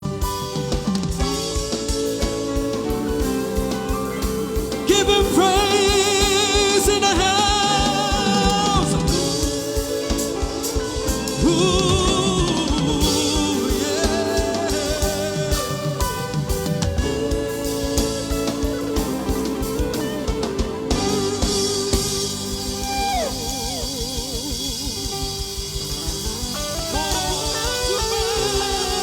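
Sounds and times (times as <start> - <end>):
drum kit beat: 0.0 - 29.0
sustained chords: 0.6 - 29.0
person singing long notes: 1.2 - 29.0.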